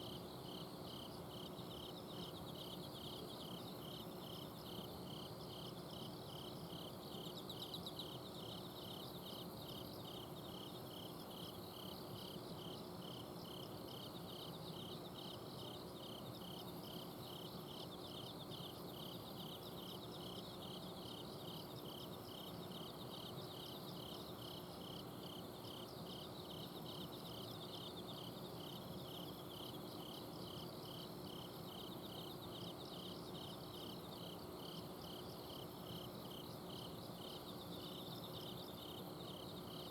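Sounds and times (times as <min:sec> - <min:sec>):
cricket chirping: 0:00.0 - 0:39.9
insects trilling: 0:00.0 - 0:39.9.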